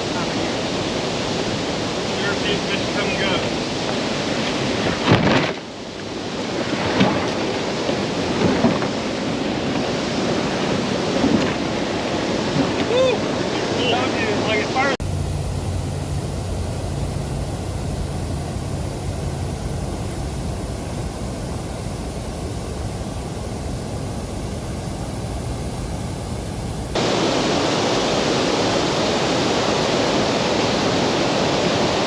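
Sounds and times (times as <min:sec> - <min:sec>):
rushing creek water: 0:00.0 - 0:32.0.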